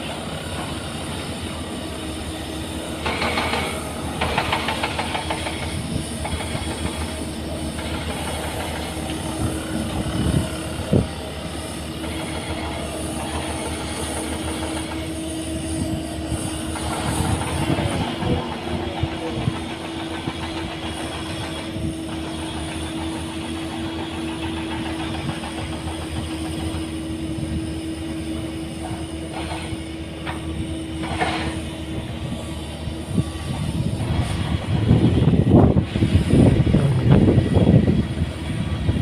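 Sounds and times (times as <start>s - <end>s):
diesel machinery engine rumbling: 0.0s - 39.0s.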